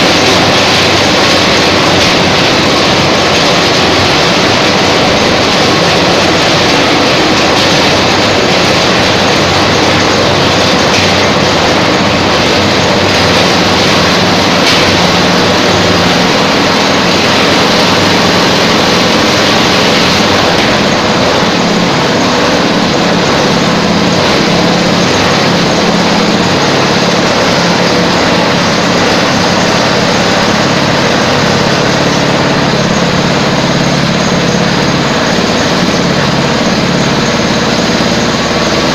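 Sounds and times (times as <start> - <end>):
peeling machine running: 0.0 - 38.9.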